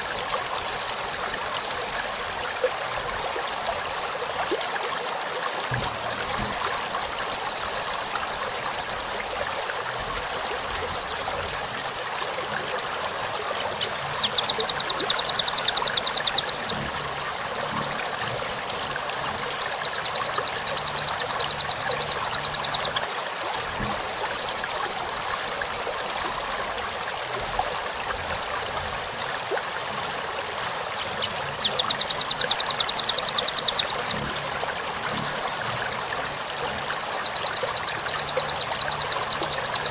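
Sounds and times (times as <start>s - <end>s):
bird calling in fast high trills: 0.0s - 39.9s
running water rushing: 0.0s - 39.9s.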